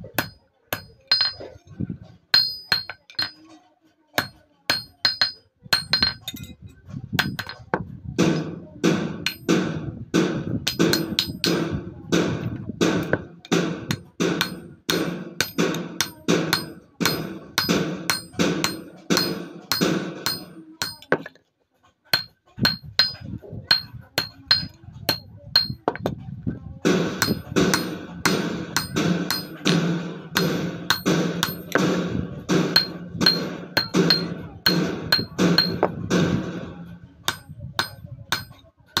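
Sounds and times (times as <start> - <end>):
hammer striking chisel on steel: 0.0 - 1.6, 2.3 - 3.6, 4.2 - 6.6, 7.2 - 21.4, 22.1 - 26.2, 26.9 - 39.0.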